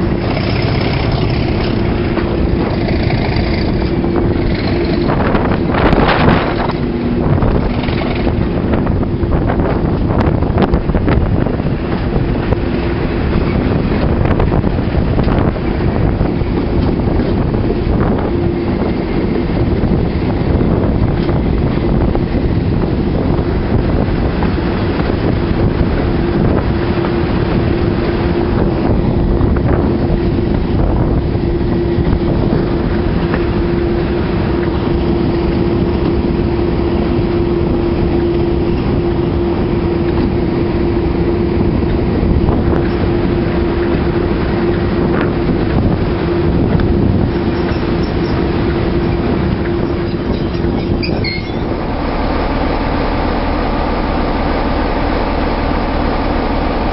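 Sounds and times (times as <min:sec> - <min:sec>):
diesel locomotive engine drone: 0:00.0 - 0:56.9
wheel noise on rails: 0:00.0 - 0:56.9
wind on microphone: 0:00.0 - 0:56.9.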